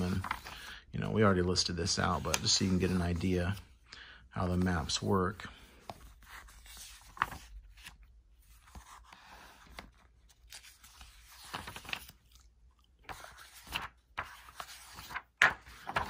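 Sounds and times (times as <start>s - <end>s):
paper pages rustling: 0.0s - 0.7s, 1.8s - 3.7s, 4.4s - 16.0s.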